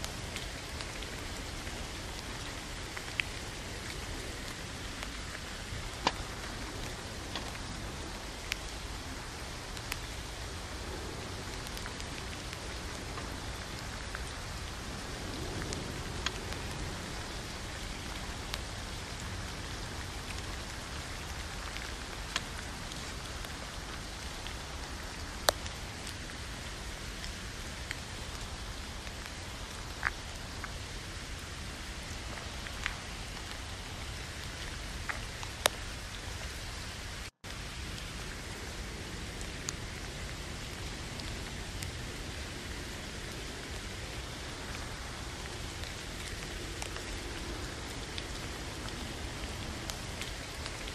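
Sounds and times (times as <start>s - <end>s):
steady rain on a tent: 0.0s - 50.9s.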